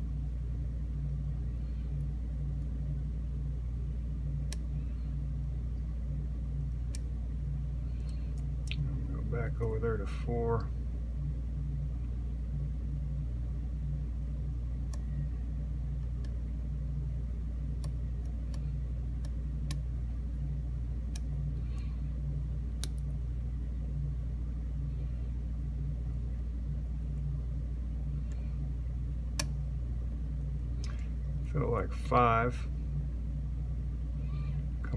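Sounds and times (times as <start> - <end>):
steady low rumble: 0.0 - 34.9.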